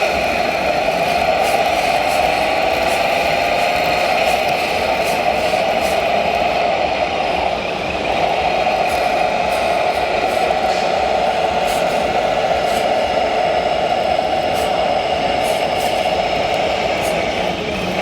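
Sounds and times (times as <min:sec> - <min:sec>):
model truck engine drone: 0:00.0 - 0:18.0.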